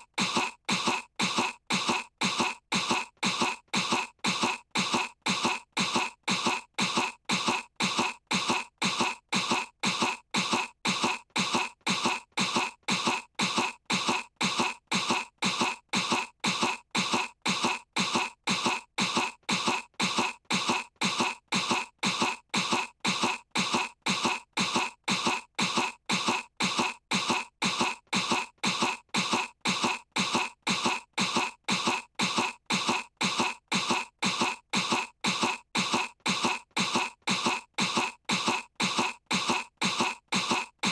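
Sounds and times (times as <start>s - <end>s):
cartoon girl fake coughing: 0.0s - 40.9s.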